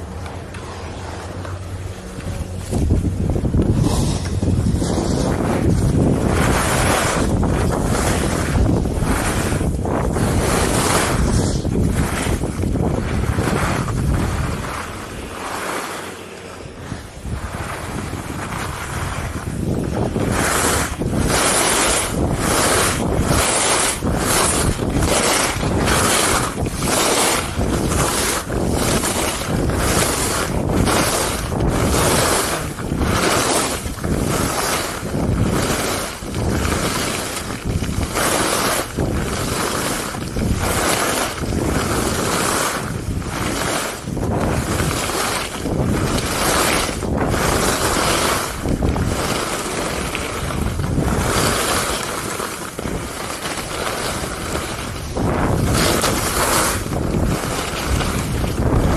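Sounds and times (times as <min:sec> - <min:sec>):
skis scraping on snow: 0:00.0 - 0:58.9
wind on microphone: 0:00.0 - 0:58.9.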